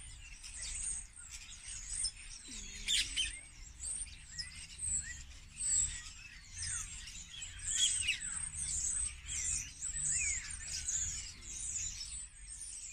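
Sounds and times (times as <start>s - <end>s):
songbirds singing: 0.0s - 12.9s.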